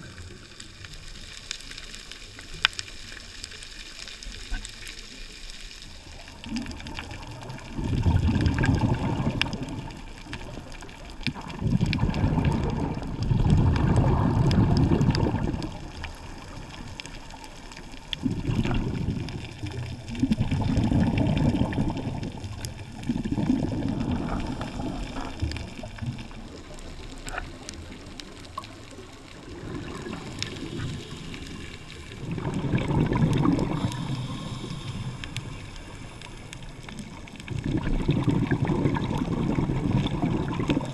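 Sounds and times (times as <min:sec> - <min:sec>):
faint clicks: 0:00.0 - 0:23.2, 0:23.8 - 0:40.9
gurgling diver exhale bubbles: 0:05.8 - 0:40.9.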